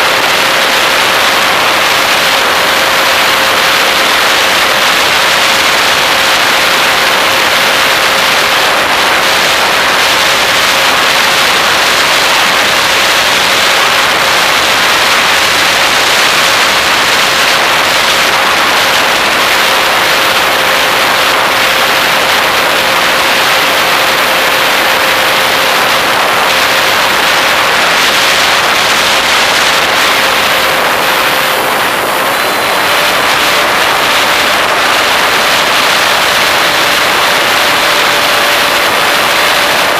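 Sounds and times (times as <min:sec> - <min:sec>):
model airplane motor whine: 0:00.0 - 0:39.9
rushing wind noise: 0:00.0 - 0:39.9.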